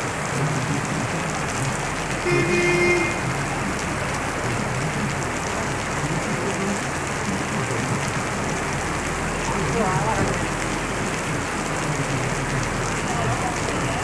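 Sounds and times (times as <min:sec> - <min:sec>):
heavy rain on hard surfaces: 0:00.0 - 0:14.0.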